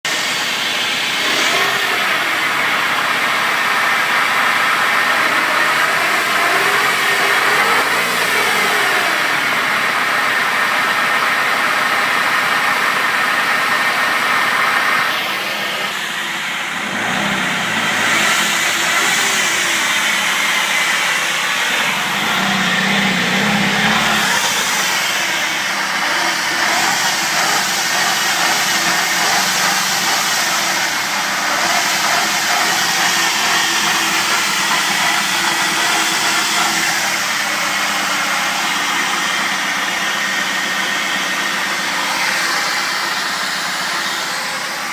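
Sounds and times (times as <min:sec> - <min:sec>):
car engine running: 0:00.0 - 0:44.9
road noise: 0:00.0 - 0:44.9
steady whining noise: 0:00.1 - 0:44.9.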